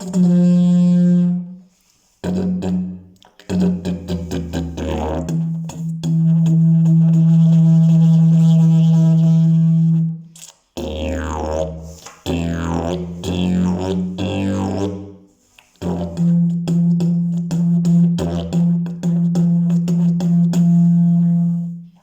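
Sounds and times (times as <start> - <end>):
didgeridoo drone: 2.2 - 10.1, 10.8 - 15.1, 15.8 - 21.8.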